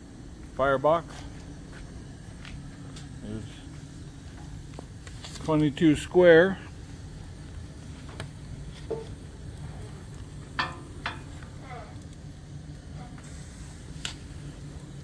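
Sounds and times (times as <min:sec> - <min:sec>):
steady low hum: 0:00.0 - 0:15.0
wood fire crackling: 0:00.0 - 0:15.0.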